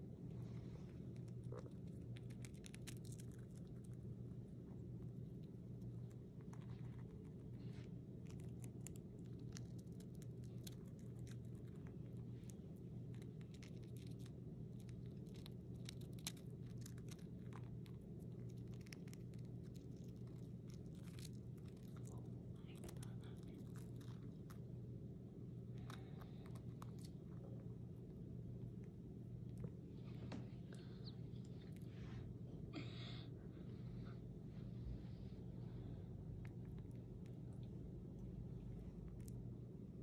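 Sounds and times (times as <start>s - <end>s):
hamster nibbling cracker: 0.0s - 30.6s, 36.2s - 40.0s
steady low hum: 0.0s - 40.0s.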